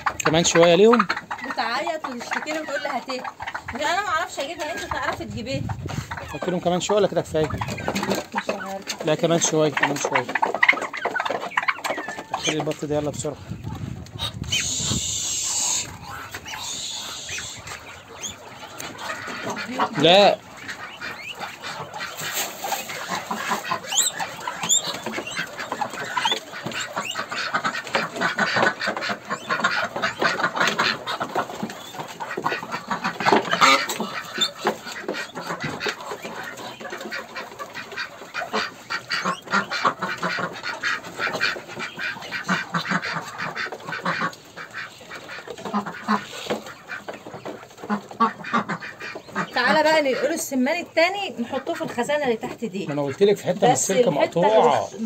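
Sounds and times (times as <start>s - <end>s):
ducks quacking: 0.0s - 55.0s
small birds chirping: 0.0s - 55.0s.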